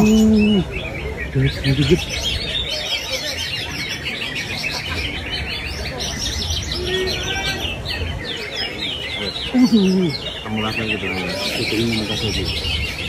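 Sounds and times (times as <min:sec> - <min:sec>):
bird singing high chirps and trills: 0:00.0 - 0:13.0.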